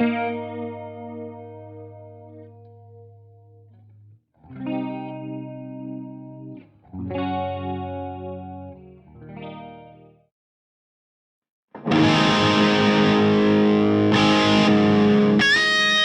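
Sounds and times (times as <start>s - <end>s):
electric guitar chords ringing: 0.0s - 3.7s, 4.5s - 10.2s, 11.8s - 16.0s.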